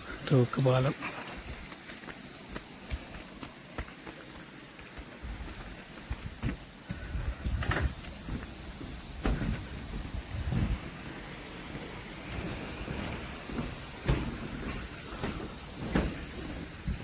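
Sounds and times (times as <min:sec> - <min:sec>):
steady hiss: 0:00.0 - 0:17.0
footsteps on footbridge: 0:00.8 - 0:17.0.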